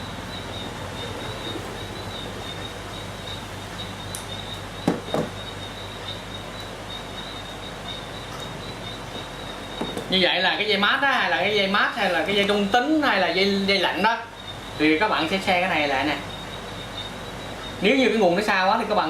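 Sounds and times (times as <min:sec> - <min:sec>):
background hiss: 0:00.0 - 0:19.0
faint high whine: 0:00.0 - 0:19.0
low mains hum: 0:00.0 - 0:19.0.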